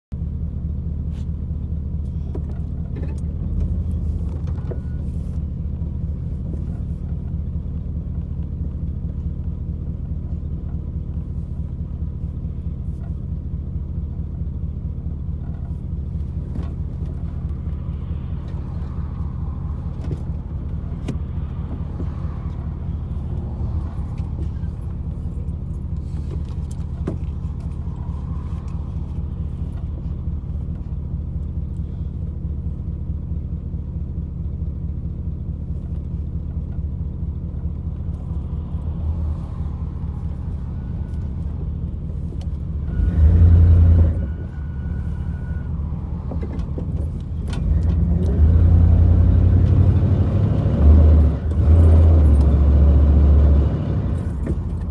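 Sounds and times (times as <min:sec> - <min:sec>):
vehicle engine idling: 0:00.1 - 0:54.9.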